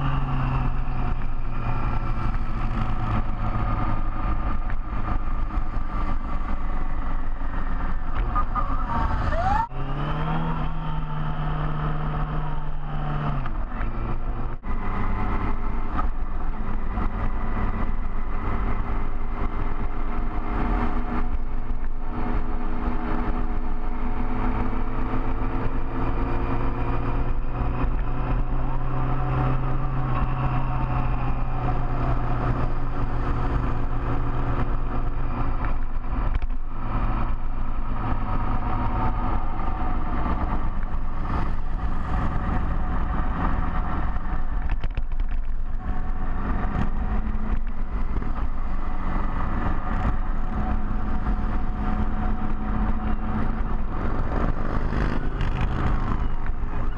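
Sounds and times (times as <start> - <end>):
motorcycle engine running: 10.6 - 56.9.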